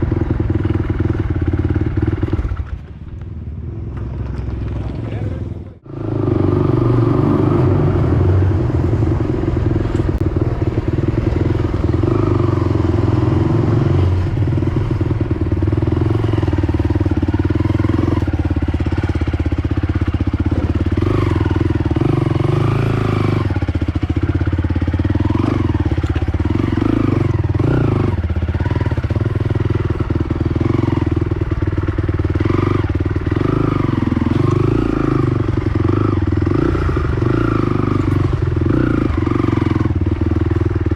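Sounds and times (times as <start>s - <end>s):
quad bike engine revving: 0.0s - 2.8s, 3.6s - 40.9s.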